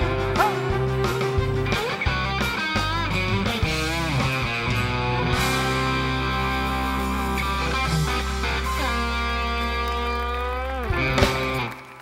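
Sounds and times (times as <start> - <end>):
country band playing: 0.0 - 11.9
electric guitar bending notes: 0.0 - 11.9.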